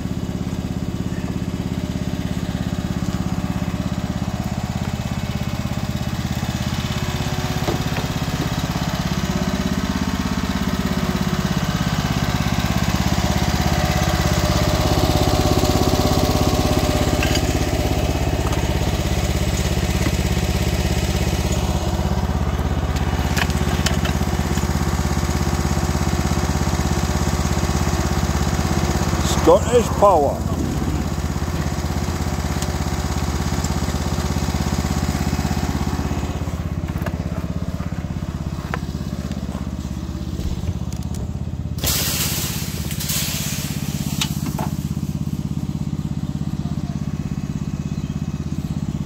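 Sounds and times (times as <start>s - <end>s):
small petrol engine running: 0.0s - 49.0s.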